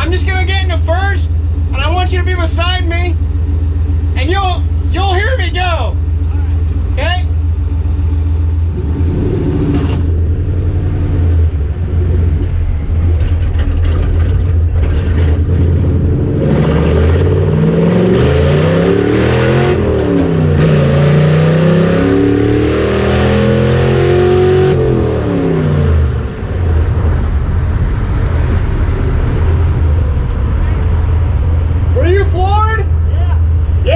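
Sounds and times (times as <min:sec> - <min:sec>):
car engine accelerating: 0:05.9 - 0:33.9.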